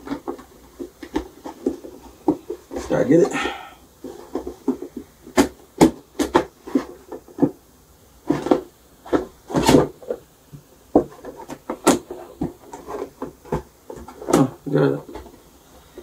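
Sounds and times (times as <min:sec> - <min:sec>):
cardboard parts clicking and knocking: 0:00.0 - 0:07.6, 0:08.2 - 0:10.2, 0:10.9 - 0:15.4.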